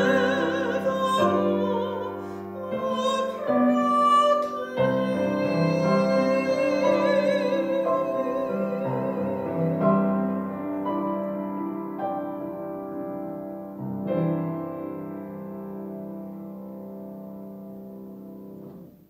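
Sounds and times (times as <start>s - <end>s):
grand piano chords: 0.0s - 19.0s.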